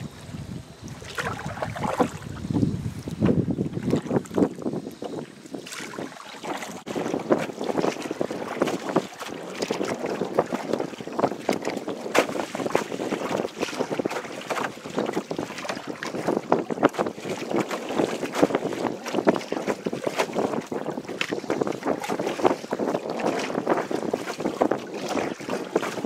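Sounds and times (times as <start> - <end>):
small waves lapping against canoe hull: 0.0 - 26.0
wind buffeting microphone: 0.0 - 26.0.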